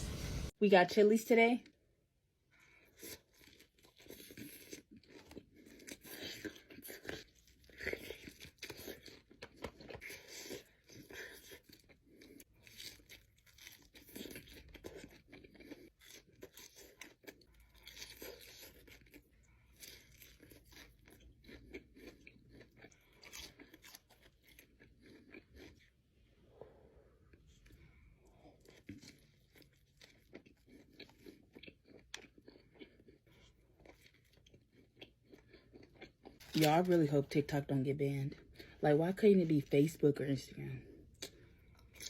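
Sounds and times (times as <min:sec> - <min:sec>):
crunching and chewing food: 0:02.5 - 0:42.0.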